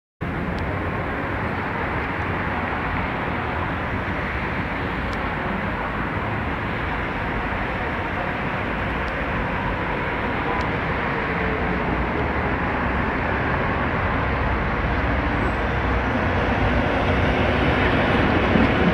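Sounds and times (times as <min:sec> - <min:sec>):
traffic on a wet road: 0:00.2 - 0:18.9.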